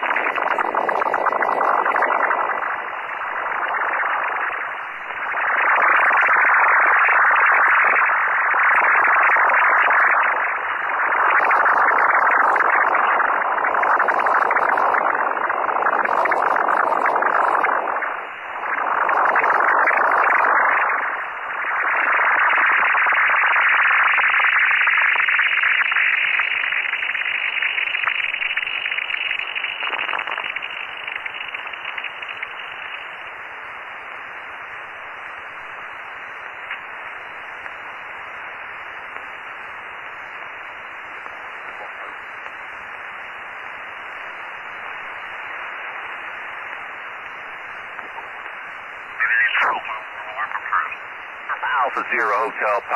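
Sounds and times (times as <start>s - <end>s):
radio receiver rushing noise: 0.0s - 25.6s, 27.6s - 52.9s
radio band hiss: 0.0s - 52.9s.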